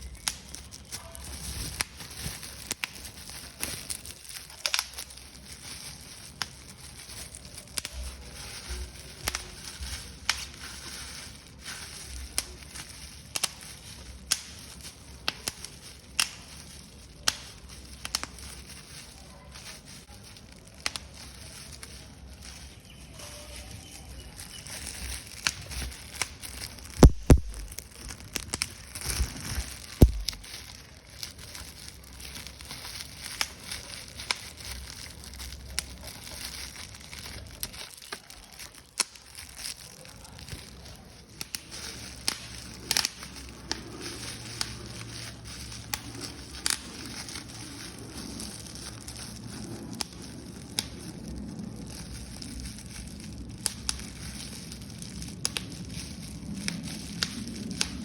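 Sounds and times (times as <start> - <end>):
paper being crumpled: 0.0 - 58.0.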